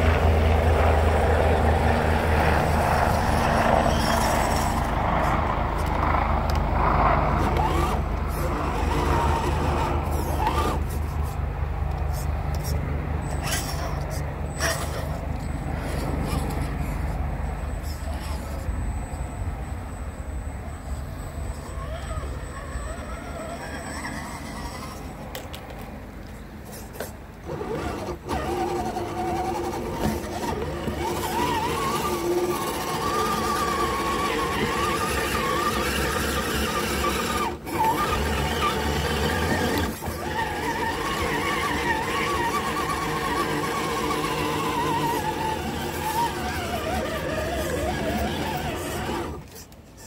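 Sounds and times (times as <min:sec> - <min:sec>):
electric motor and gears whining: 0:00.0 - 0:50.0.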